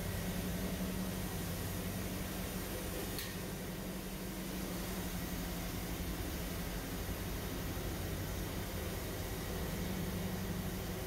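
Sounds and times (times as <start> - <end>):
constant hiss: 0.0 - 11.0
low equipment hum: 0.0 - 11.0.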